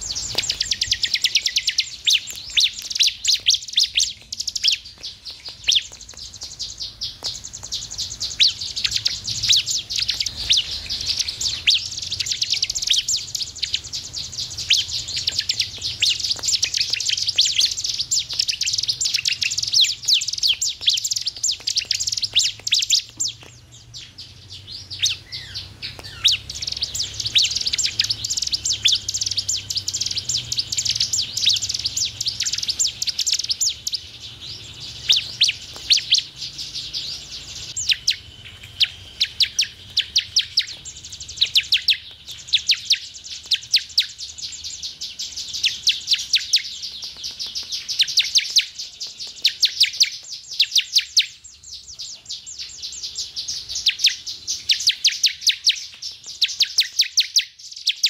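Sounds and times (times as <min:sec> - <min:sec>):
bird chirps and trills: 0:00.0 - 0:58.0.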